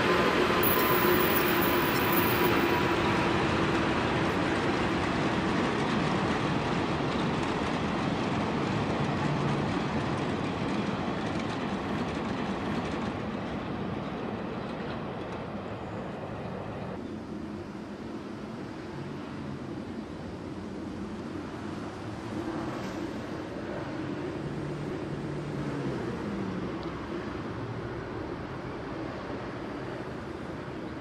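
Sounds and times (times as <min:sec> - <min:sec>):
trains rolling past: 0:00.0 - 0:31.0.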